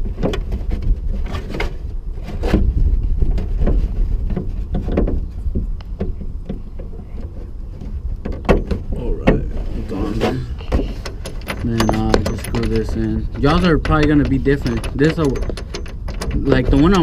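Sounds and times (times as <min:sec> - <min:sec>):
knocks and rattles of parts: 0:00.0 - 0:17.0
low rumble: 0:00.0 - 0:17.0.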